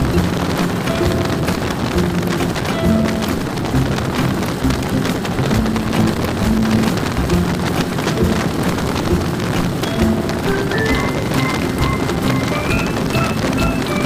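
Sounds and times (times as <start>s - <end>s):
rushing wind: 0.0s - 14.0s
vehicle road noise: 0.0s - 14.0s.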